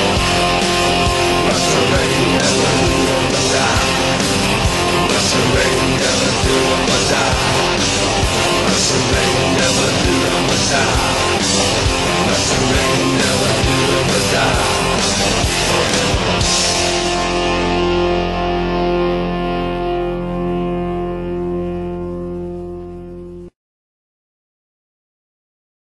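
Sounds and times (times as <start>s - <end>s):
rock music with guitar and drums: 0.0s - 23.5s.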